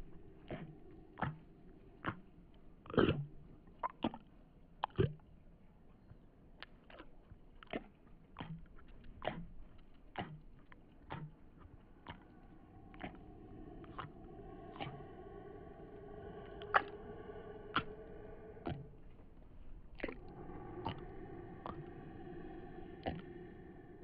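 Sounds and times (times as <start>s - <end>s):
faint background drone: 0.0s - 4.8s, 5.4s - 24.0s.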